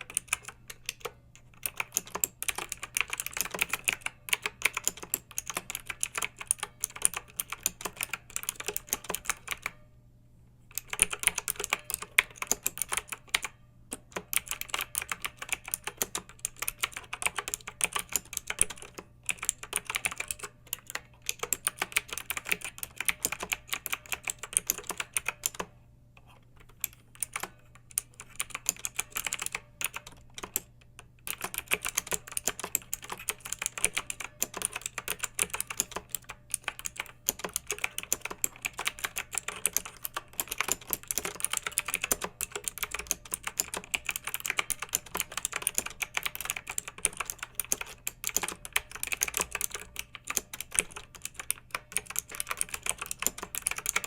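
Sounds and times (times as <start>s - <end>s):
mechanical keyboard typing: 0.0s - 9.8s, 10.7s - 54.0s.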